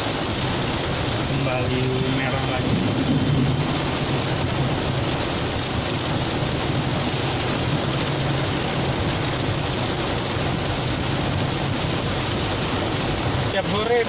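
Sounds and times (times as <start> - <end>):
heavy rain on car roof: 0.0 - 14.0.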